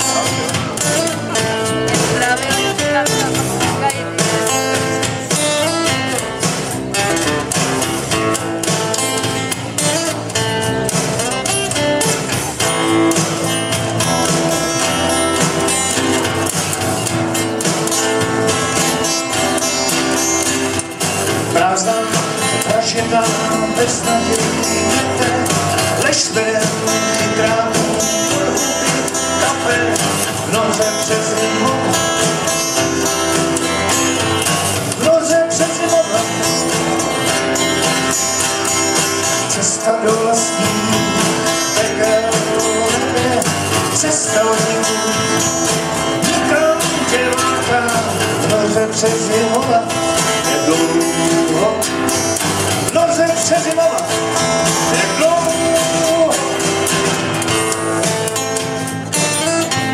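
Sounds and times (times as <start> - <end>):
man singing: 0.0 - 16.2, 18.3 - 57.5
acoustic guitars strummed and picked: 0.0 - 59.9.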